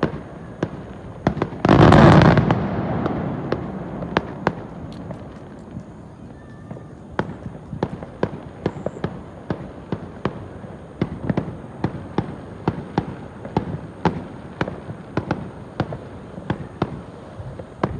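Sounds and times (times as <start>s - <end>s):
fireworks popping: 0.0s - 17.9s.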